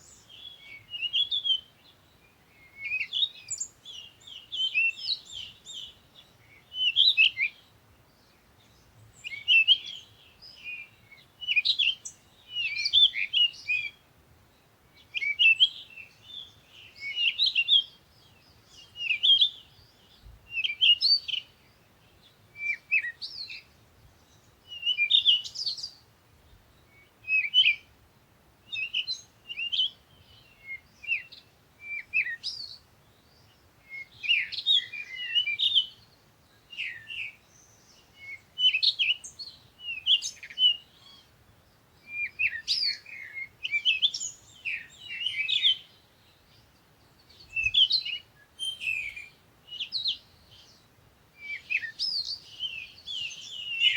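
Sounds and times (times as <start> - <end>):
small songbirds chirping: 0.0 - 53.9.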